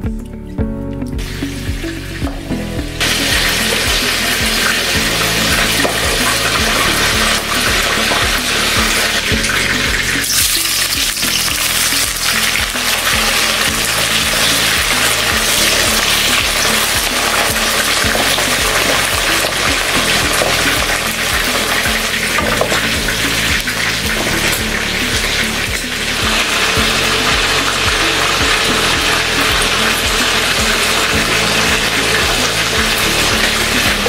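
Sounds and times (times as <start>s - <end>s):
background music with steady beat: 0.0s - 34.0s
onions sizzling in oil: 3.0s - 34.0s.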